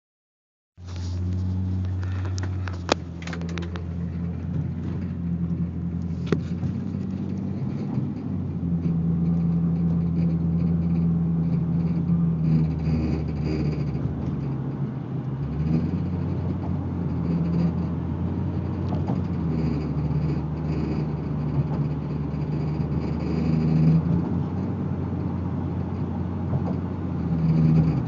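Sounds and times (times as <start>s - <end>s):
low engine hum: 0.8s - 28.0s.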